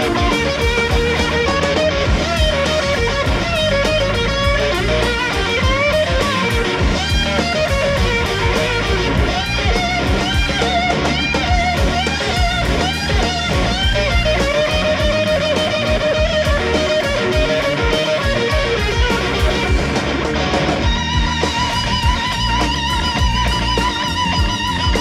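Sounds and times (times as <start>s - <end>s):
bass guitar: 0.0s - 25.0s
drums: 0.0s - 25.0s
electric guitar solo: 0.0s - 25.0s.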